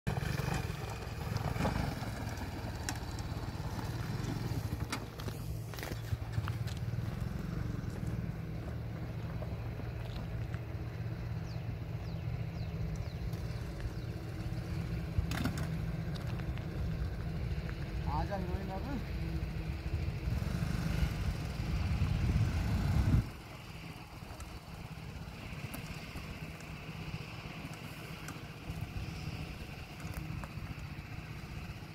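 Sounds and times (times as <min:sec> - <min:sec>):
motorcycle engine rumbling: 0:00.1 - 0:31.9.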